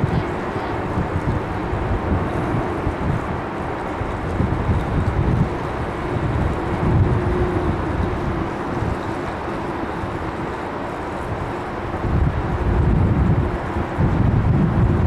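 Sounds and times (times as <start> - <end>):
jet engines rumbling: 0.0 - 15.0
strong wind buffeting microphone: 0.0 - 15.0.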